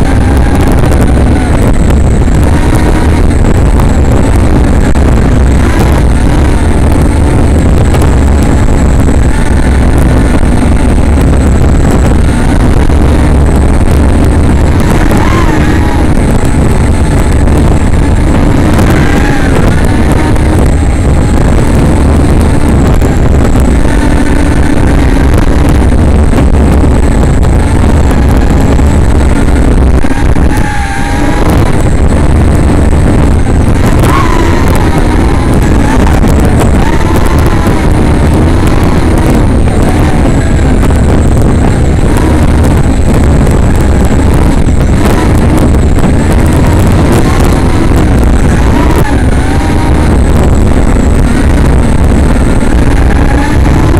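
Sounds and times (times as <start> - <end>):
drone motors whining: 0.0 - 53.9
wind rumble on microphone: 0.0 - 53.9.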